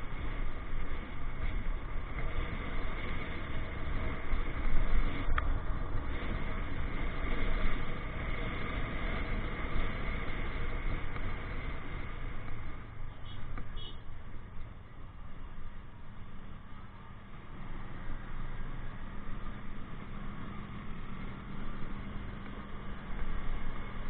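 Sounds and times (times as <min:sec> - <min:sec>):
motorcycle engine rumble: 0:00.0 - 0:24.0
passing traffic: 0:00.0 - 0:24.0.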